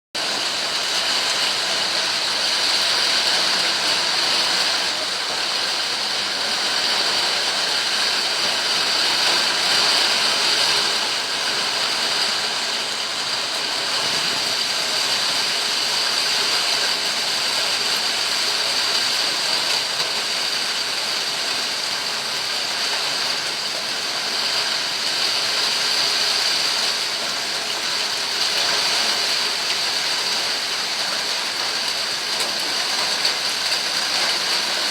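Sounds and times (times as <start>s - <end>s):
steady rain: 0.2s - 34.9s.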